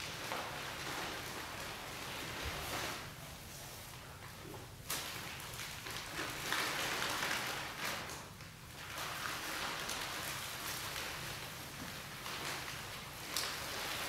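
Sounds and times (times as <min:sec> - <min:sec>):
plastic film and paper crinkling: 0:00.0 - 0:14.0.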